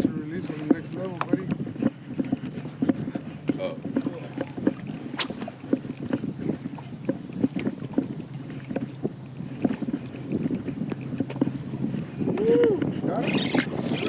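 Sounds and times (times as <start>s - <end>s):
waves slapping boat hull: 0.0s - 14.0s
wind on microphone: 0.0s - 14.0s.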